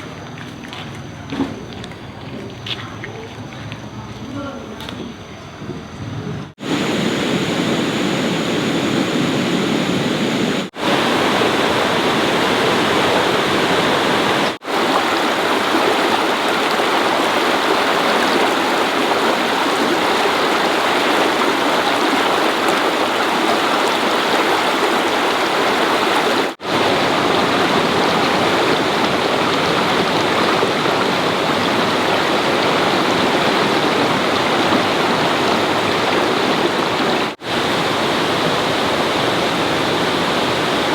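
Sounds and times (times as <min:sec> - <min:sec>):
rushing water: 0:06.5 - 0:40.9.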